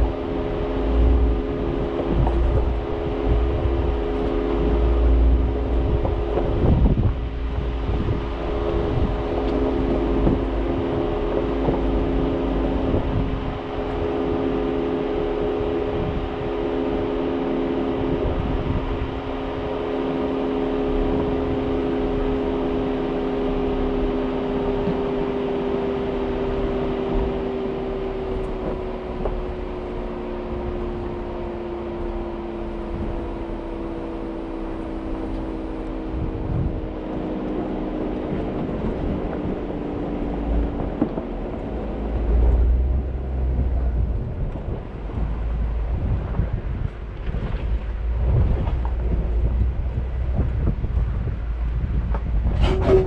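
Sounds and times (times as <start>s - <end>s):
vehicle engine running at low speed: 0.0s - 53.0s.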